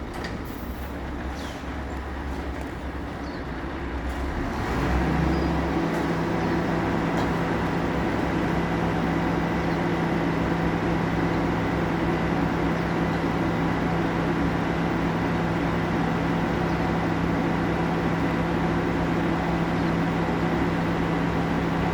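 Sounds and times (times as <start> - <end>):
garbage truck engine running: 0.0 - 21.9.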